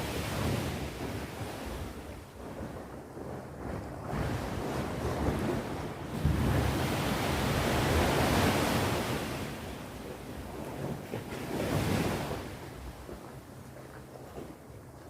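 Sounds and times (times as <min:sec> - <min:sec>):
ocean waves breaking on shore: 0:00.0 - 0:15.0
wind rumble on microphone: 0:00.0 - 0:15.0.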